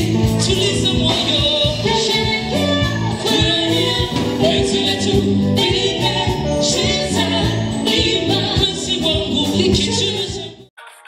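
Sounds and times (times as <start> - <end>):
electric guitar: 0.0 - 10.6
bass guitar: 0.0 - 10.7
drum kit: 0.0 - 10.7
keyboard: 0.0 - 11.0
person singing: 0.0 - 11.0.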